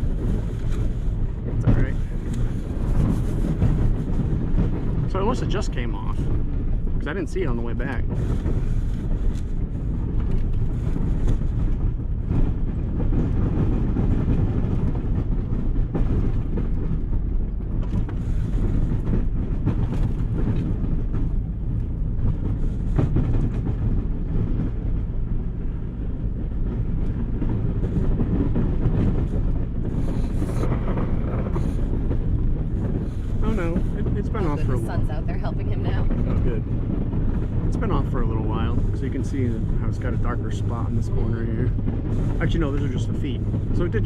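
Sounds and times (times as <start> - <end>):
vehicle engine running: 0.0 - 44.0.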